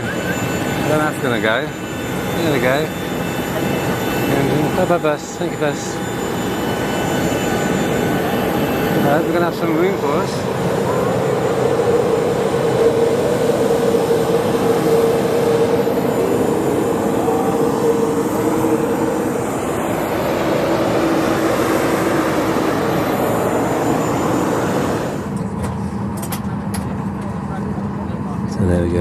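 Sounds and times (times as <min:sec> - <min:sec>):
jet aircraft engine whine: 0:00.0 - 0:29.0.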